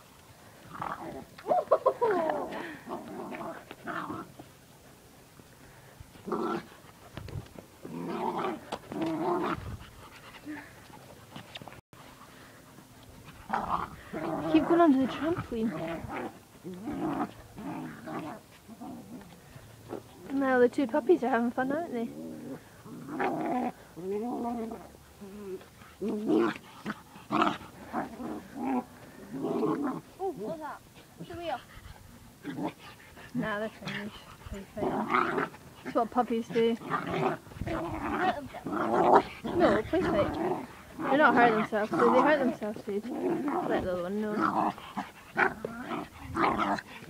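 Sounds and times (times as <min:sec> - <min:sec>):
puppies play-growling: 0:00.4 - 0:20.4, 0:21.7 - 0:47.0.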